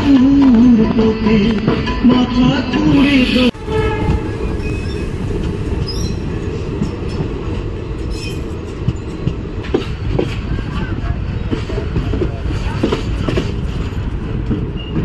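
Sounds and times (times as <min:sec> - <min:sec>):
train clatter: 0:00.0 - 0:15.0
train wheels rumbling on rails: 0:00.0 - 0:15.0.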